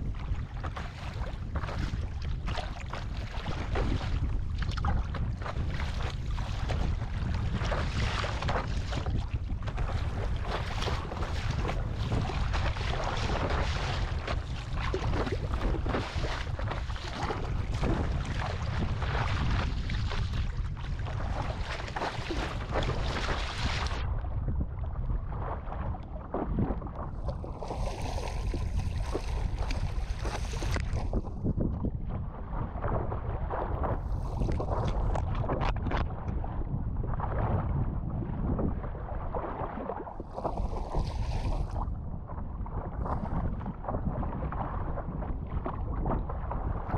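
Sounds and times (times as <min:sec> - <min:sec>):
sea water splashing: 0:00.0 - 0:24.2, 0:25.1 - 0:31.5, 0:32.2 - 0:37.6, 0:38.8 - 0:42.4
gusty wind rumbling on microphone: 0:00.0 - 0:46.9.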